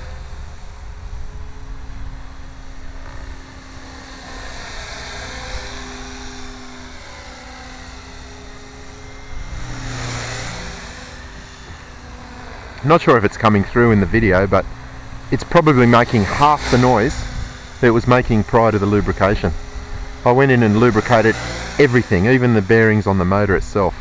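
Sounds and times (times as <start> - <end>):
rc helicopter rotor whine: 0.0 - 24.0
rush of blade noise: 0.0 - 24.0.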